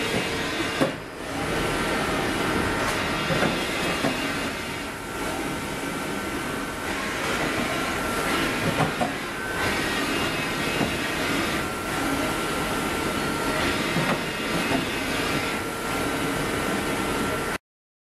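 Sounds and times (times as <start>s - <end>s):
machining centre running with whine: 0.0s - 17.6s.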